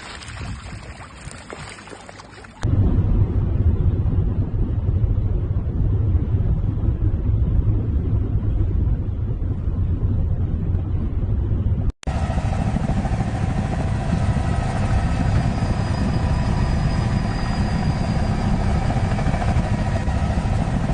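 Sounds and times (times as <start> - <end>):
low rumbling noise: 2.6 - 20.9.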